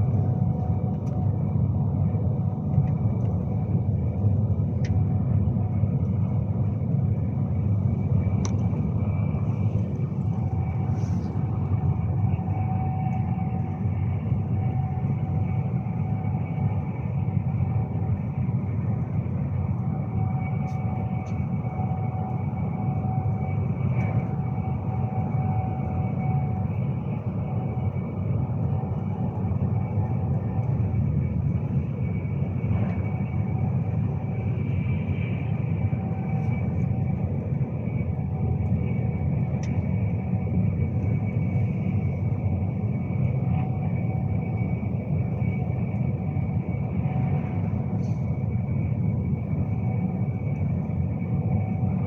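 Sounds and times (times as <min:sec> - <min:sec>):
faint steady whine: 0:00.0 - 0:52.0
train interior rumble: 0:00.0 - 0:52.0.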